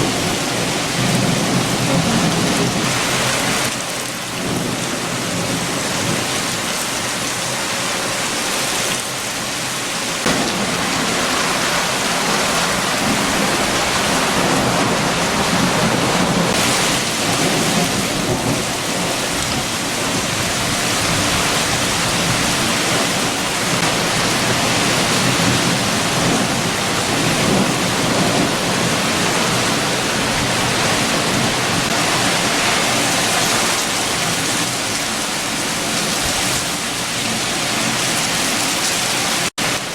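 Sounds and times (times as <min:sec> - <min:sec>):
strong wind rumble: 0:00.0 - 0:08.9, 0:10.2 - 0:39.9
heavy rain: 0:00.0 - 0:39.9.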